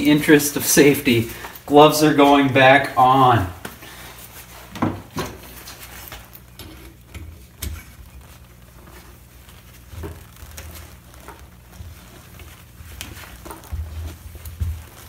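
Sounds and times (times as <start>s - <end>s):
gloves and sleeves rustling: 0.0s - 15.0s.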